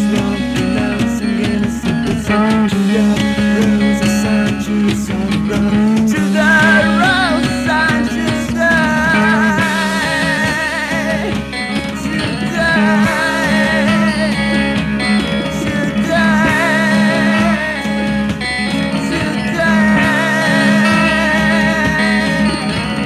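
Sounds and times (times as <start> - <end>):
psychedelic rock guitar: 0.0 - 23.0
wavering lead line with vibrato: 0.0 - 23.0.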